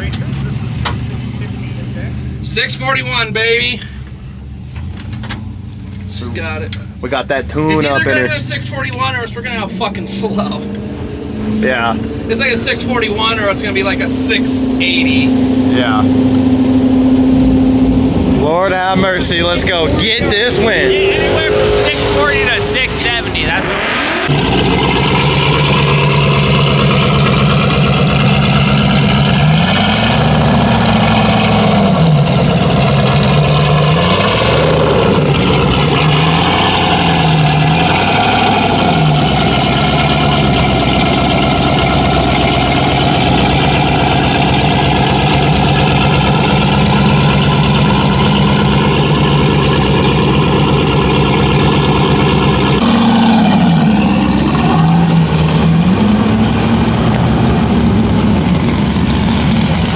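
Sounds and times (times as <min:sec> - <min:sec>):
truck engine idling loudly: 0:00.0 - 0:59.9.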